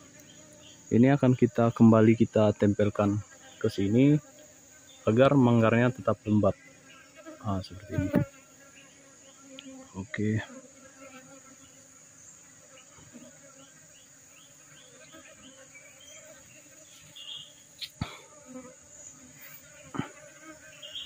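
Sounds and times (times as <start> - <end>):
faint insect chirps: 0.0 - 21.0
insects droning: 0.0 - 21.0.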